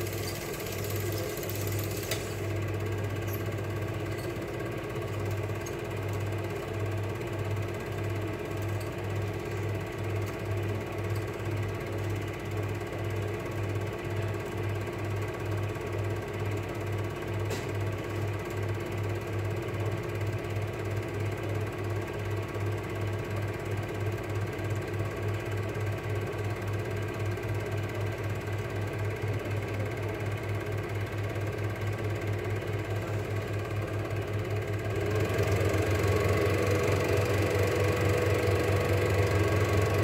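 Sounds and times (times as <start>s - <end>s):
film projector whirring: 0.0s - 40.0s.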